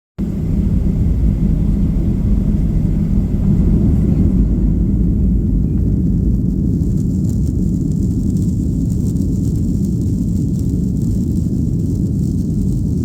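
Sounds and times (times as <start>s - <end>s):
jet engines rumbling: 0.2s - 13.0s.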